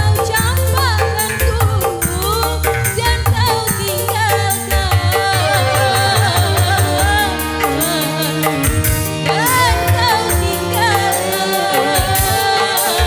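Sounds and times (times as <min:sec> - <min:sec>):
bass line: 0:00.0 - 0:12.6
drum and cymbal beat: 0:00.0 - 0:13.0
ornamented lead melody: 0:00.0 - 0:13.0.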